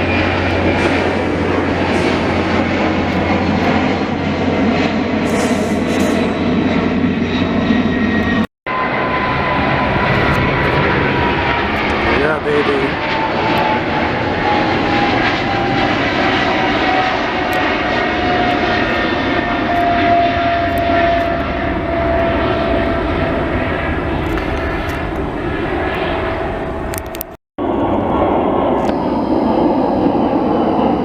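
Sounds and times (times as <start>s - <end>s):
airliner passing: 0.0s - 31.0s.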